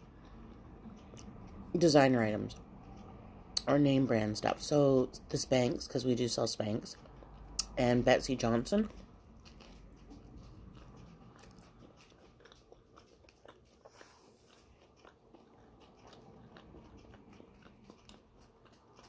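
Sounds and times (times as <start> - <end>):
biting and chewing bread: 0.0 - 19.0.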